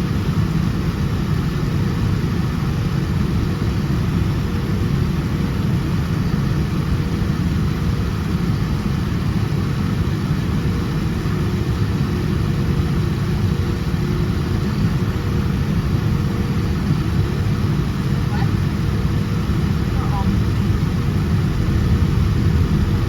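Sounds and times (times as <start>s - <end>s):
airplane cabin engine rumble: 0.0s - 23.0s
thin steady hum: 0.0s - 23.0s.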